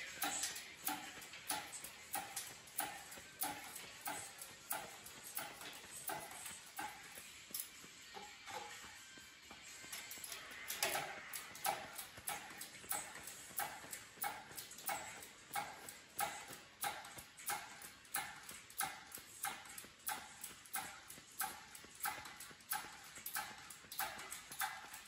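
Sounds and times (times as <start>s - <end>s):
hydraulic hoist pump clacking: 0.0s - 25.0s.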